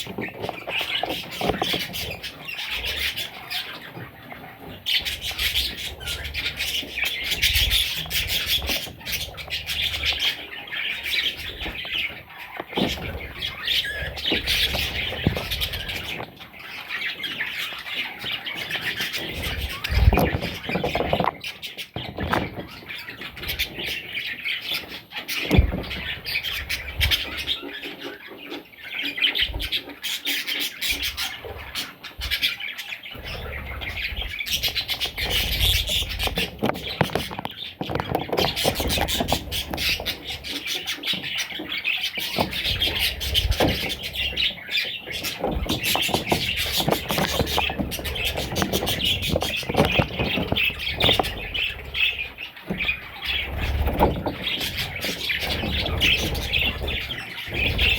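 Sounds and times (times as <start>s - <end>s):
budgerigars chirping: 0.0s - 57.9s.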